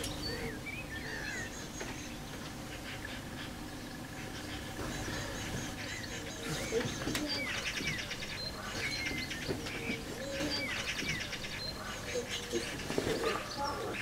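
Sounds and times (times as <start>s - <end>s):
low bird notes: 0.0s - 14.0s
magpies chattering: 0.0s - 14.0s.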